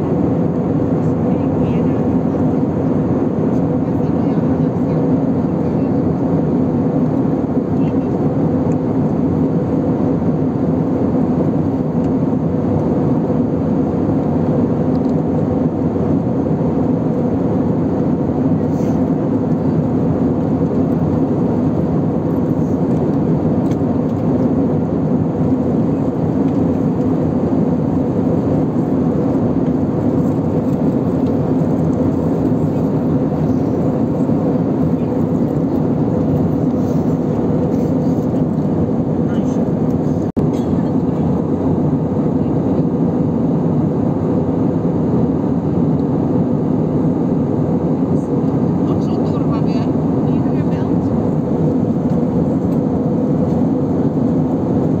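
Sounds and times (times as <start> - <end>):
airplane cabin engine drone: 0.0 - 55.0.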